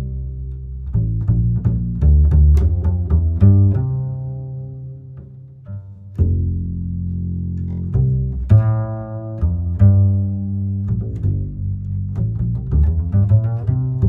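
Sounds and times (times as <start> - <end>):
plucked and bowed strings music: 0.0 - 14.0.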